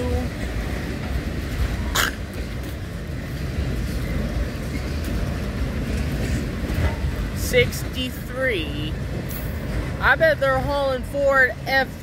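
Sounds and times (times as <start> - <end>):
freight car wheels rumbling on rail: 0.0 - 12.0.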